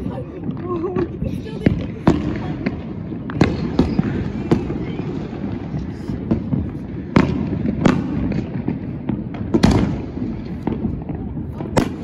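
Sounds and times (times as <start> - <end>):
faint fireworks pops: 0.0 - 12.0
fireworks bangs: 0.0 - 12.0.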